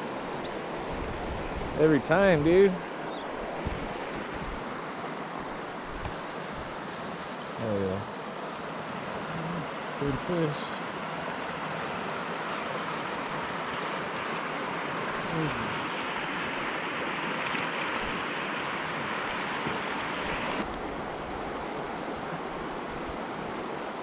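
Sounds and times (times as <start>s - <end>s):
river rushing over stones: 0.0s - 24.0s.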